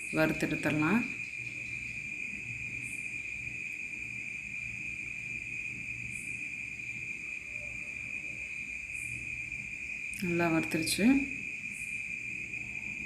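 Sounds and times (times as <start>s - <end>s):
faint low hum: 0.0s - 13.0s
high-pitched whine: 0.0s - 13.0s.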